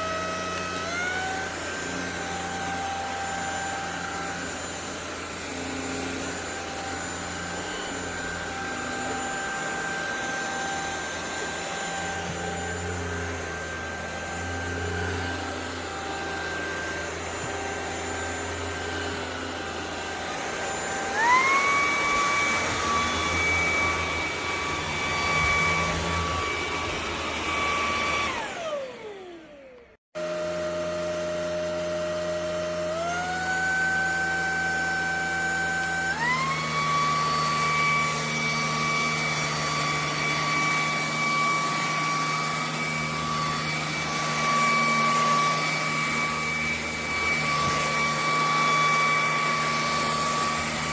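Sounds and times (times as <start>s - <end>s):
vacuum motor whining: 0.0s - 50.9s.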